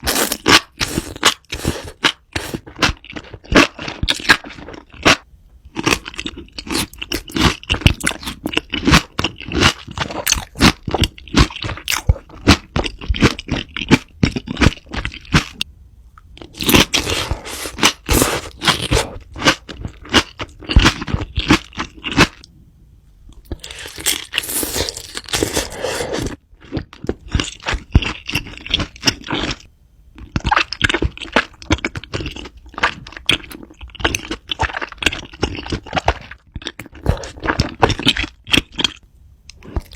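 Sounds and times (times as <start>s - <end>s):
crunchy food being chewed: 0.0s - 15.7s, 16.3s - 22.5s, 23.3s - 39.9s.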